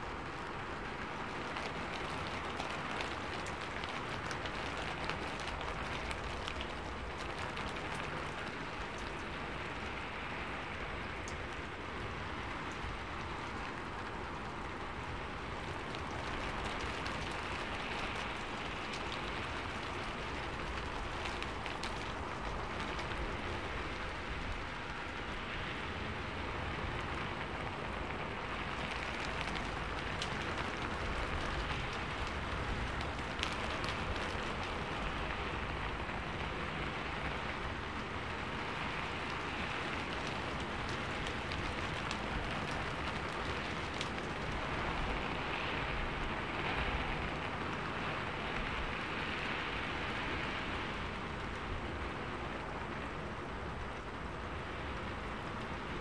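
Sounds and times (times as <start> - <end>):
raindrops ticking on a surface: 0.0 - 56.0
steady rain falling: 0.0 - 56.0.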